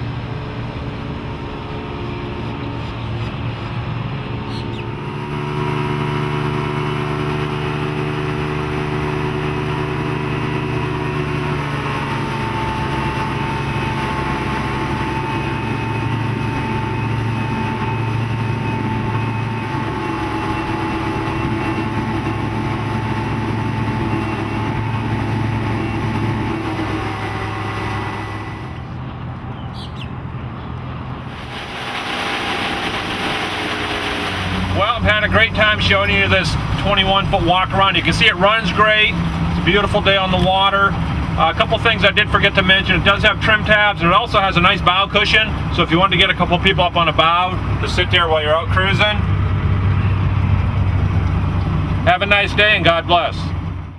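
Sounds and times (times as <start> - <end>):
outboard motor running: 0.0 - 29.5, 30.8 - 53.9.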